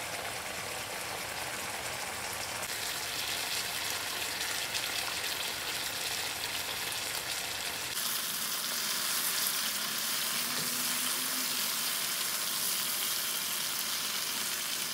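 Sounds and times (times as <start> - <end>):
meat sizzling in a pan: 0.2 - 14.9.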